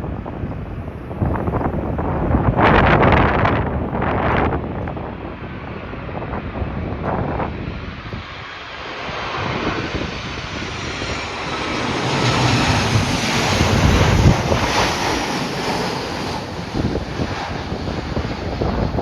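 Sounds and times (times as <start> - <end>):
airliner engine noise: 0.0 - 19.0
wind buffeting microphone: 0.0 - 19.0.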